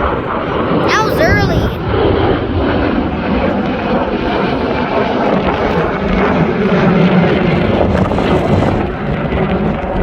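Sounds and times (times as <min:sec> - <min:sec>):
airplane engine passing: 0:00.0 - 0:09.1
wind rumbling on microphone: 0:00.0 - 0:10.0.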